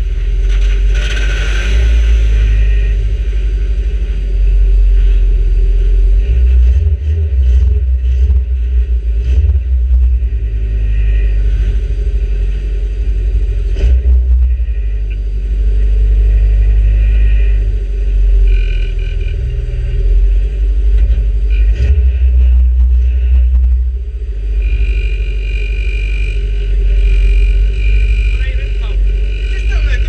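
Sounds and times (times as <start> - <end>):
race car engine running hard: 0.0 - 30.0.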